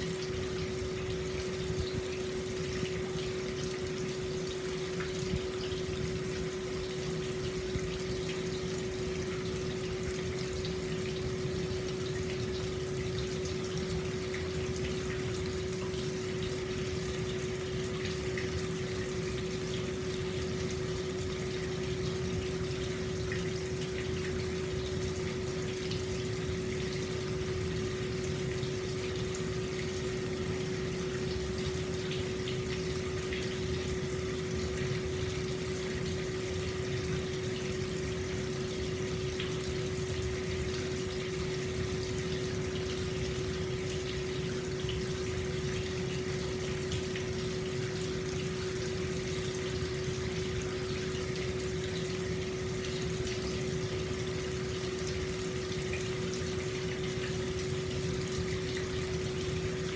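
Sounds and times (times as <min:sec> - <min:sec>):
water flowing into a bath: 0:00.0 - 0:59.9.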